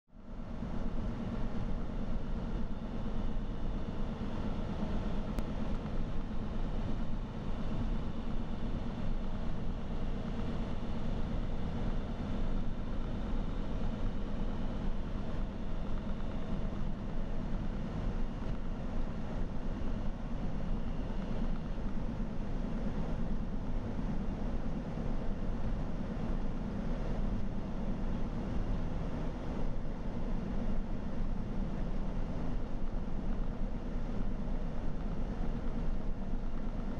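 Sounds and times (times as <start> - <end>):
faint steady whines: 0.1 - 36.9
vehicle engine and road noise: 0.1 - 36.9.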